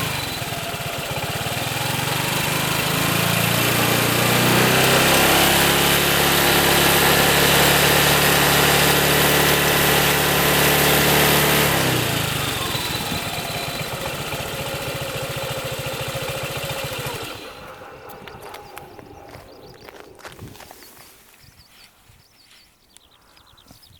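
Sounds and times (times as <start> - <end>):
scooter engine revving and idling: 0.0 - 21.0.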